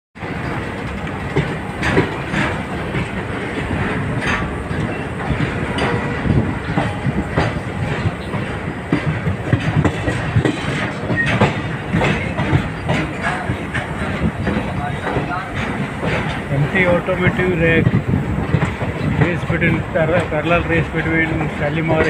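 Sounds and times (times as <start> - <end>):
train wheels rumbling on rails: 0.2 - 22.0
wheels clacking over rail joints: 0.2 - 22.0.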